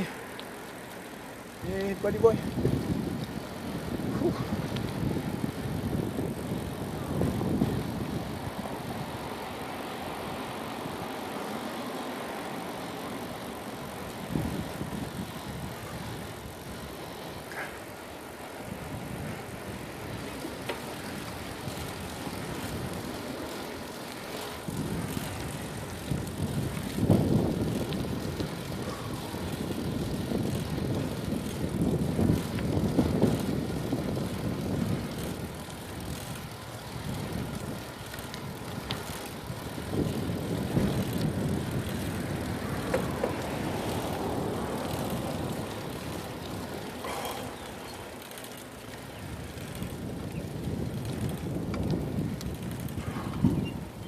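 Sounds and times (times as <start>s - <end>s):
bicycle riding noise: 0.0s - 54.0s
wind rumbling on microphone: 0.0s - 54.0s.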